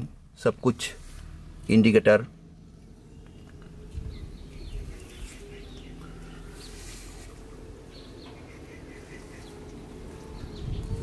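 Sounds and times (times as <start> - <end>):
low steady hum: 0.0 - 11.0
birds chirping: 1.5 - 11.0.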